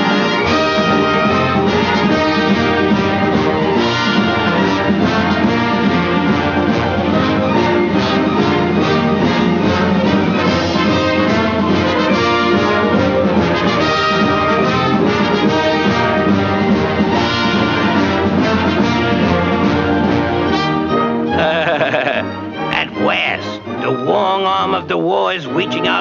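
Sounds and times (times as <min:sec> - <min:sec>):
orchestral cartoon music with brass: 0:00.0 - 0:26.0.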